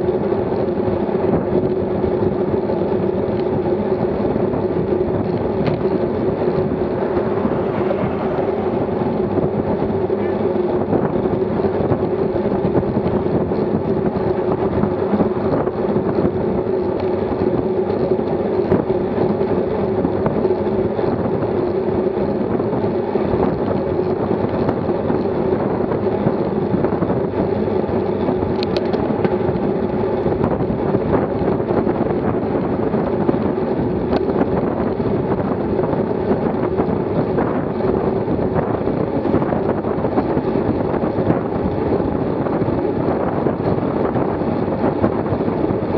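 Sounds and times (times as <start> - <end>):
bike tyres humming on asphalt: 0.0 - 45.9
wind rushing over microphone: 0.0 - 45.9.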